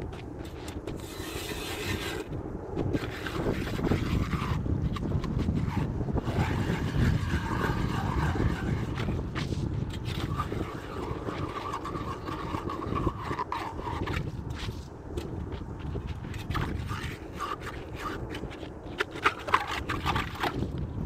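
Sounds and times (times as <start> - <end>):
ice auger grinding scrape: 0.5 - 2.3, 2.9 - 14.8, 16.2 - 20.7.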